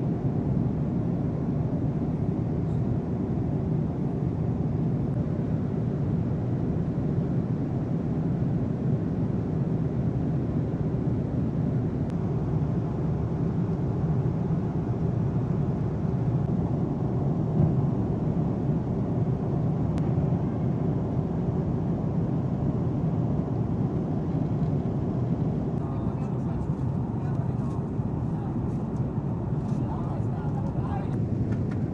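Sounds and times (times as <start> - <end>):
aircraft jet engines rumbling: 0.0 - 31.9.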